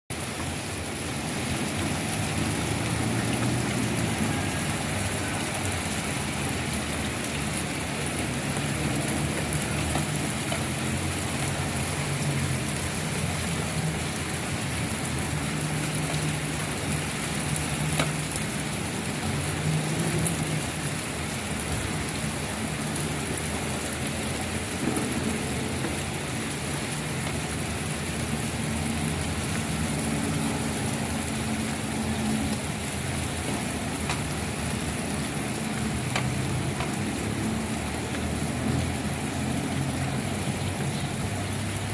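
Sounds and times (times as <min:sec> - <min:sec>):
soft rain falling: 0:00.1 - 0:41.9.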